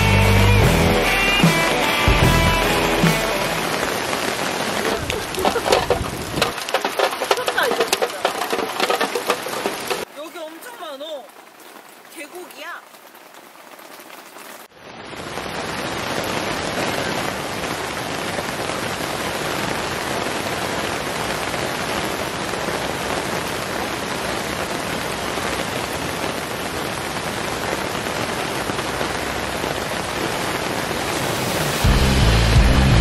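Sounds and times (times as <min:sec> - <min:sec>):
heavy rain into puddles: 0:00.0 - 0:33.0.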